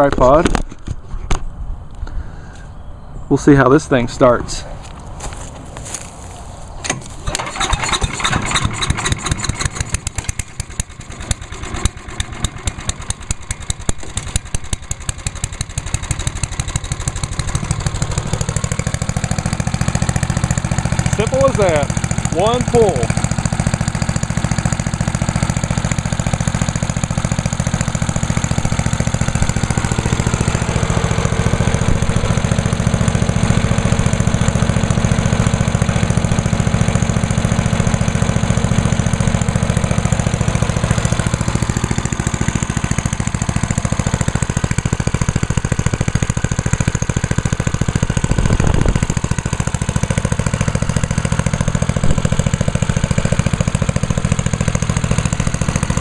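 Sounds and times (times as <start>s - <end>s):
chipper engine running: 4.8s - 56.0s.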